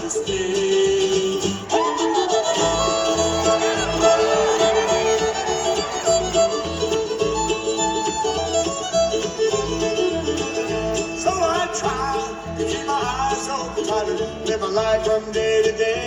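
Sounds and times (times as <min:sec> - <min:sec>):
bluegrass band playing: 0:00.0 - 0:16.0.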